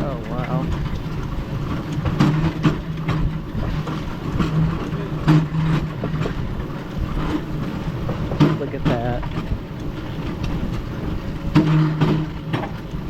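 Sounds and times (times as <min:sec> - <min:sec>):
humming drone: 0:00.0 - 0:13.0
steel wheels rumbling on track: 0:00.0 - 0:13.0.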